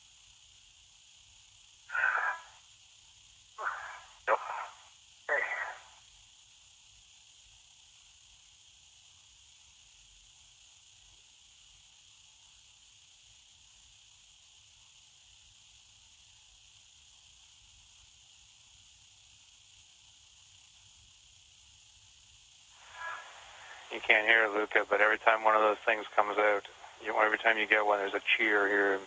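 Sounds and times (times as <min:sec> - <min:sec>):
faint radio hiss: 0:00.0 - 0:29.0.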